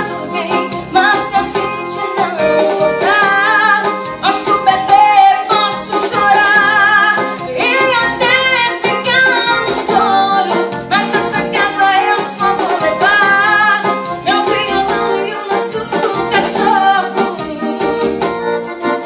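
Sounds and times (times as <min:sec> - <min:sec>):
electronic keyboard playing: 0:00.0 - 0:19.0.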